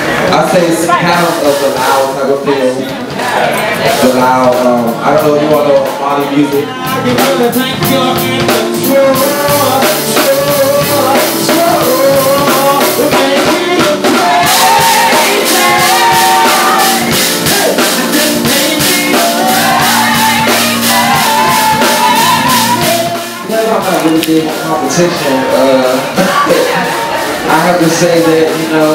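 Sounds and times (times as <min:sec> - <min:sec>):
drum kit beat: 0:00.0 - 0:28.9
man singing: 0:03.6 - 0:28.9.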